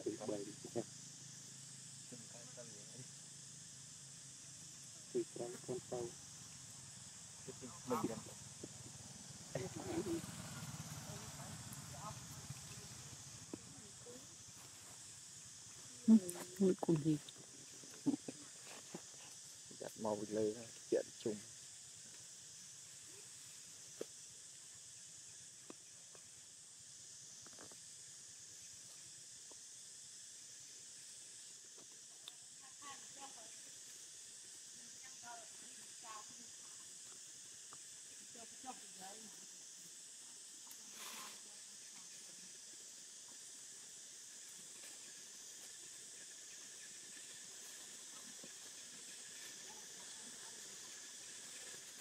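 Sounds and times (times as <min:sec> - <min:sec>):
high-pitched outdoor hiss: 0:00.0 - 0:52.0.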